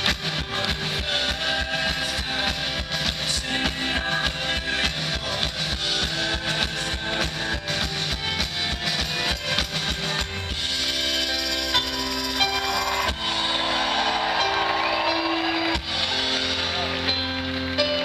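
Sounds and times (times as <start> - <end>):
steady drum beat: 0.0 - 16.8
strummed guitars: 0.0 - 18.0.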